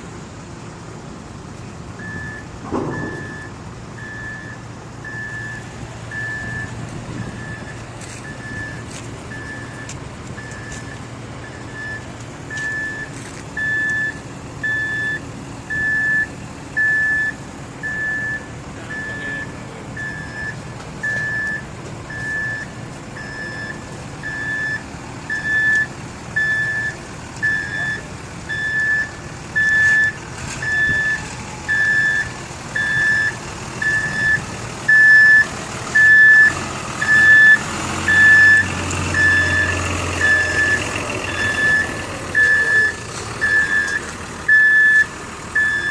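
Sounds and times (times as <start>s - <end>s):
truck engine running: 0.0s - 45.9s
truck reversing alarm beeping: 1.9s - 45.9s.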